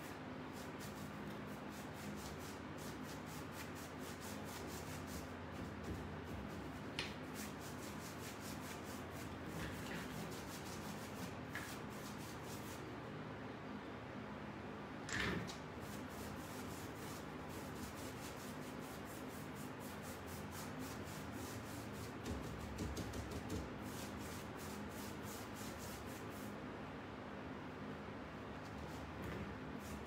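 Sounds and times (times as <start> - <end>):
paintbrush scrubbing on wood: 0.0 - 12.9, 15.8 - 26.6, 28.8 - 30.0.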